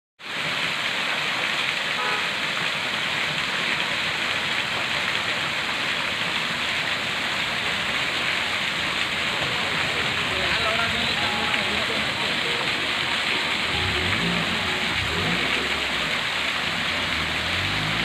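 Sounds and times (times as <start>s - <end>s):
water splashing onto rocks: 0.2s - 18.0s.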